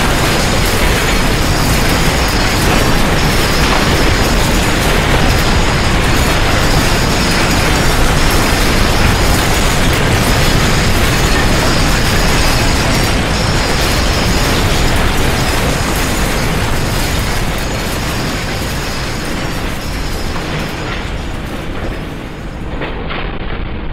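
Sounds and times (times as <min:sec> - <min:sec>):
earthquake rumble: 0:00.0 - 0:23.9.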